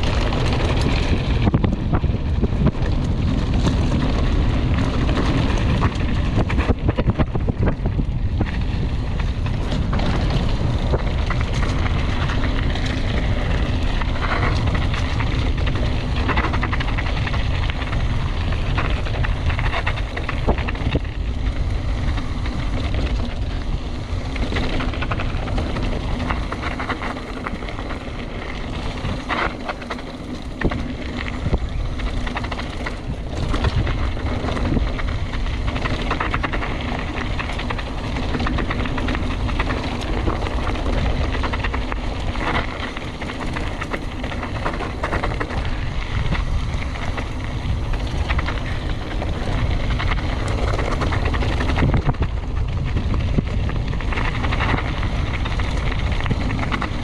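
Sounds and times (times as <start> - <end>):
bike knocks and rattles: 0.0 - 57.0
bike tyres rumbling: 0.0 - 57.0
wind buffeting microphone: 0.0 - 57.0.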